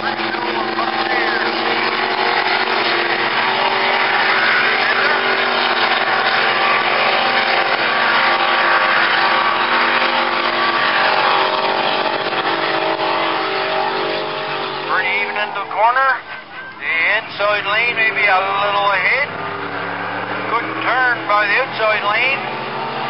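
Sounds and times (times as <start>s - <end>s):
racing boat engines droning: 0.0s - 23.0s.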